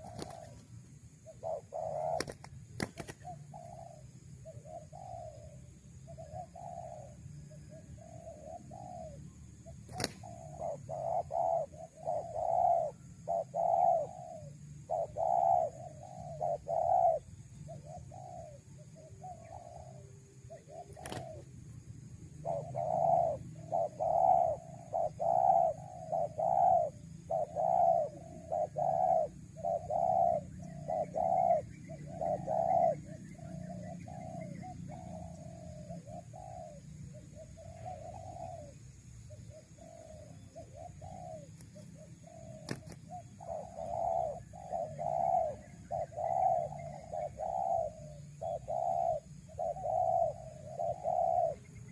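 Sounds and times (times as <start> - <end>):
doves cooing: 0.0 - 51.9.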